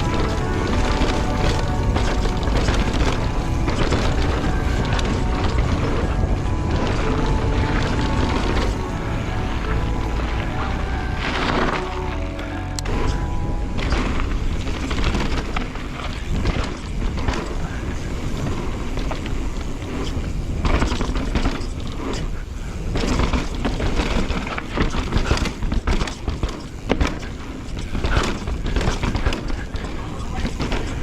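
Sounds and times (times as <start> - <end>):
bike knocking and rattling: 0.0 - 31.0
bike tyres on dirt and roots: 0.0 - 31.0.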